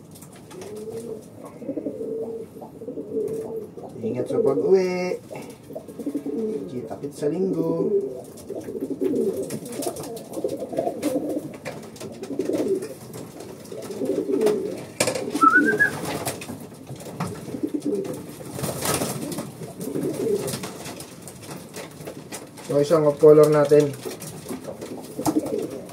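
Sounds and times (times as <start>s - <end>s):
pigeons cooing: 0.0s - 25.9s.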